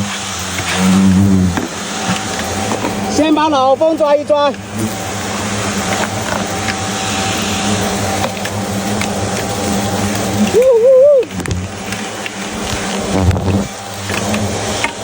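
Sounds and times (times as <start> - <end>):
hornets buzzing: 0.0 - 15.0.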